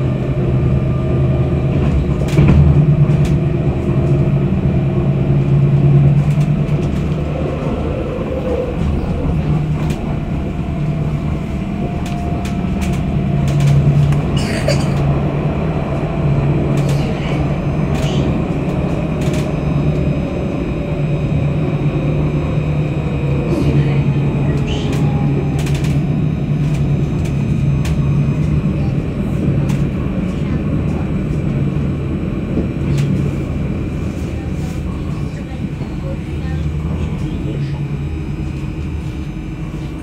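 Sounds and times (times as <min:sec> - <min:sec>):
tram rumbling on rails: 0:00.0 - 0:40.0.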